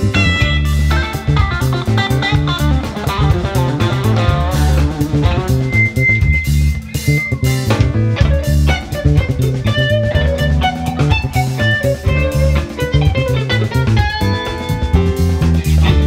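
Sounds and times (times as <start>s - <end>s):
electric guitar high notes: 0.0s - 16.0s
live rock band playing: 0.0s - 16.0s.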